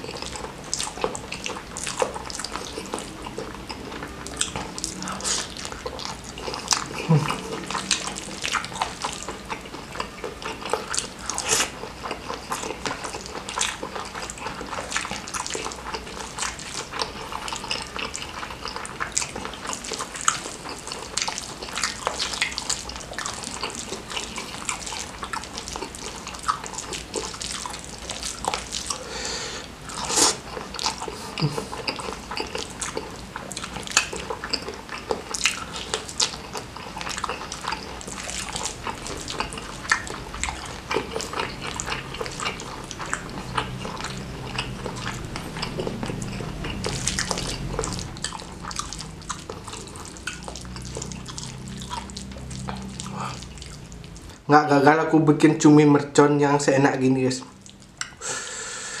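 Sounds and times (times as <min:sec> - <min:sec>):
wet chewing and lip-smacking: 0:00.0 - 0:54.5, 0:57.4 - 0:58.4.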